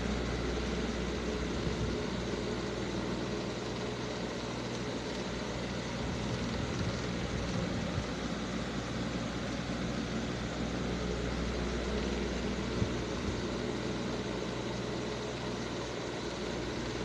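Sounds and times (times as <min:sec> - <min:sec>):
low rumble with hiss: 0:00.0 - 0:17.0.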